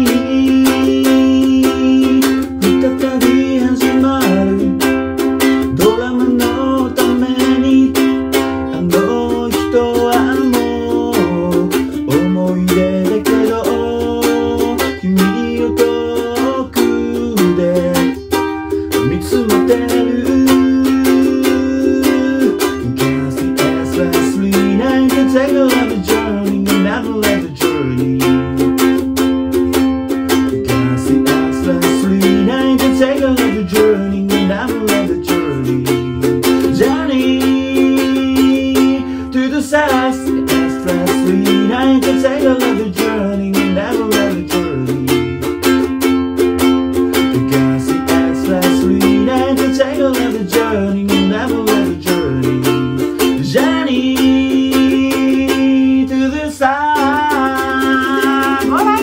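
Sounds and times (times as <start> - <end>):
ukulele strumming and picking: 0.0 - 59.0.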